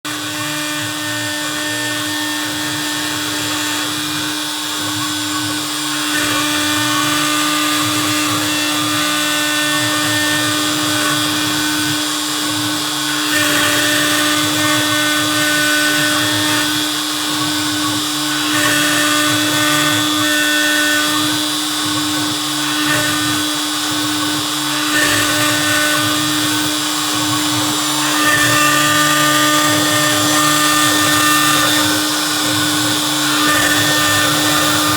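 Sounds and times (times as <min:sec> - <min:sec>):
bit cutting plastic: 0:00.0 - 0:34.9
router spindle whine: 0:00.0 - 0:34.9.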